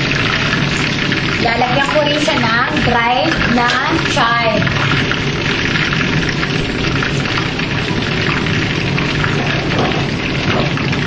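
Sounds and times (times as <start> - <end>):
soup bubbling and popping: 0.0 - 11.0.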